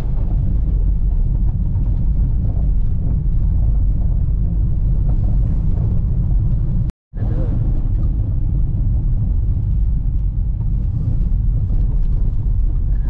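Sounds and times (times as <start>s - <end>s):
car rumbling on dirt road: 0.0s - 13.0s.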